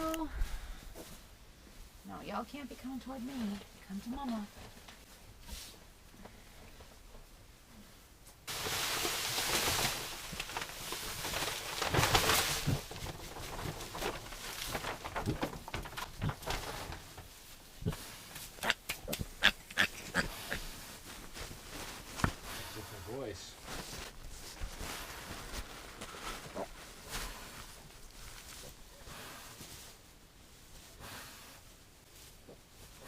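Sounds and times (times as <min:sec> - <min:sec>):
rustling and scuffling: 0:00.0 - 0:33.0.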